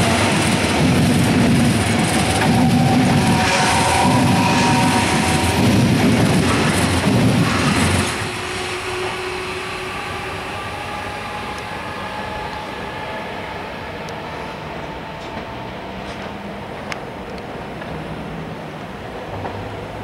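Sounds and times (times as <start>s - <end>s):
high-speed train passing: 0.0s - 20.0s
train whine: 0.0s - 20.0s.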